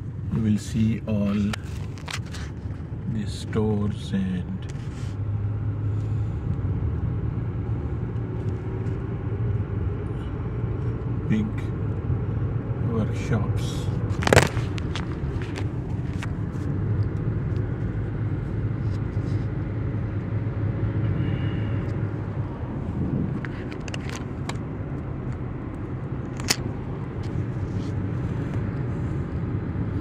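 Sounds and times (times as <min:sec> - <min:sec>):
car driving rumble: 0:00.0 - 0:30.0.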